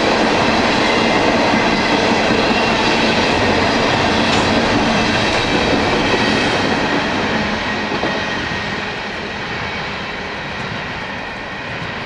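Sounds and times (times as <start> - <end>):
train wheels rolling over rails: 0.0 - 12.0.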